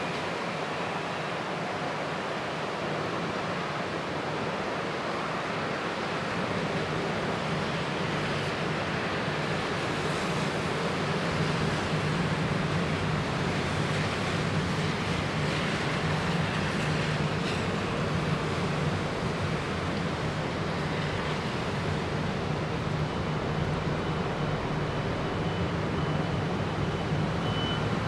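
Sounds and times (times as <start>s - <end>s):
rushing wind: 0.0s - 28.0s.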